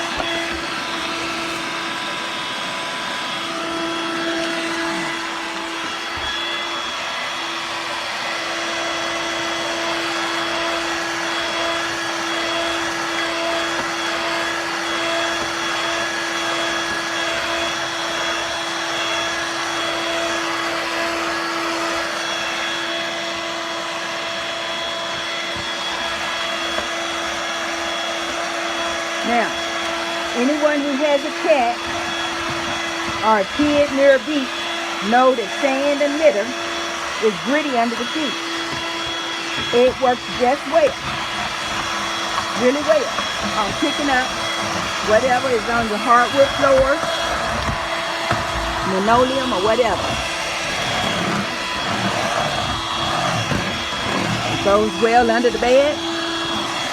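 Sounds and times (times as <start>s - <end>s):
vacuum cleaner running: 0.0s - 56.9s.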